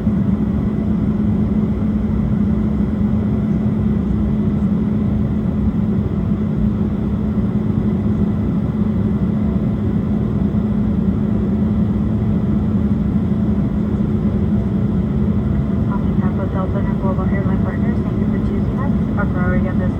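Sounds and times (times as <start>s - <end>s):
airliner cabin drone: 0.0s - 19.9s.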